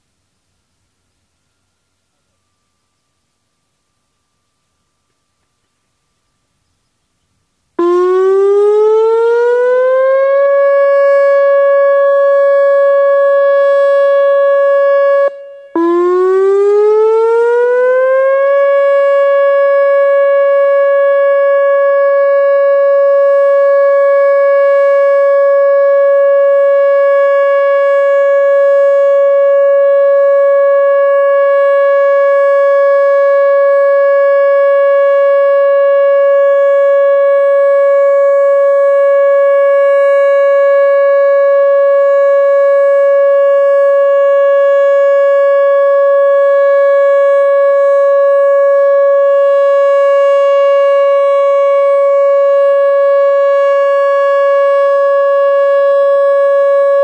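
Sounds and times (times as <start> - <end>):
warning siren alert tone: 7.8 - 57.0.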